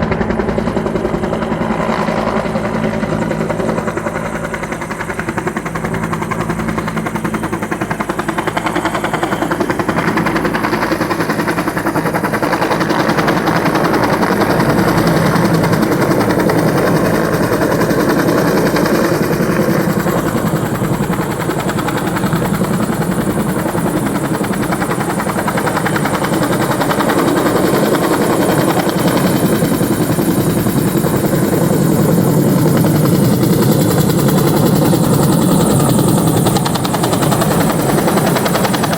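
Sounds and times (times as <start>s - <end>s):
helicopter rotor beating: 0.0s - 38.9s.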